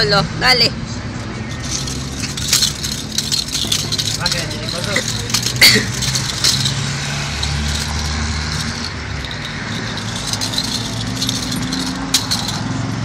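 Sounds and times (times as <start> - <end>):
plastic ball rattling on tiles: 1.5 - 12.7.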